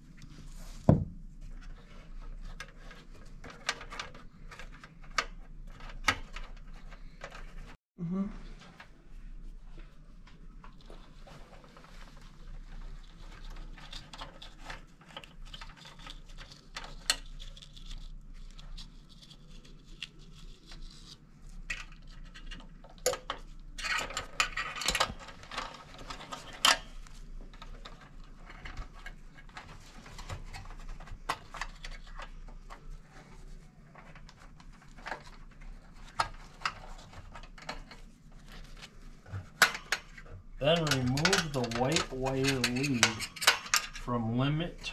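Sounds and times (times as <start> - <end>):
hands handling wires: 0.1 - 7.8, 8.6 - 44.1.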